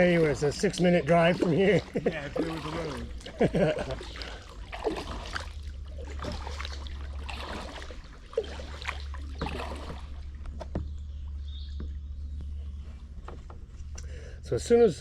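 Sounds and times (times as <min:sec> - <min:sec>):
paddle splashing water: 0:00.0 - 0:14.2.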